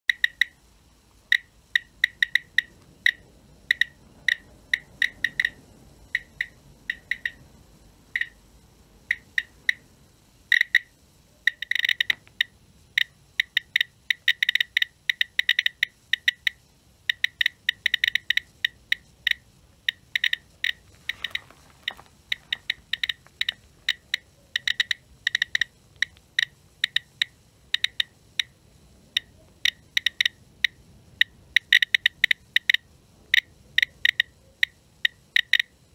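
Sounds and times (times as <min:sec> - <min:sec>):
survey meter count clicks: 0:00.1 - 0:00.6, 0:01.3 - 0:07.4, 0:08.1 - 0:08.4, 0:09.0 - 0:09.8, 0:11.5 - 0:21.4, 0:22.2 - 0:28.5, 0:29.1 - 0:35.7.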